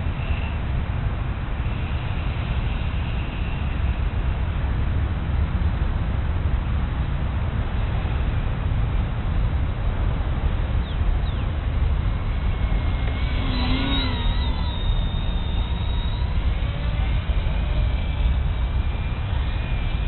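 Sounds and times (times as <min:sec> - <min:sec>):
electric motors and propellers whining: 0:00.0 - 0:20.0
wind rumbling on microphone: 0:00.0 - 0:20.0.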